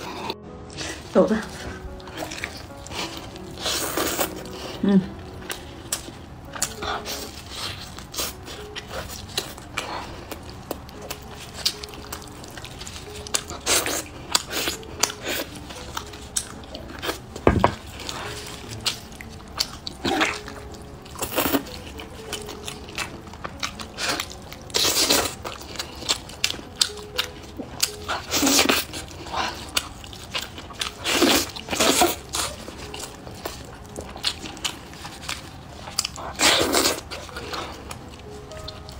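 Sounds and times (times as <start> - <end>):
wet chewing and smacking: 0.0 - 38.9.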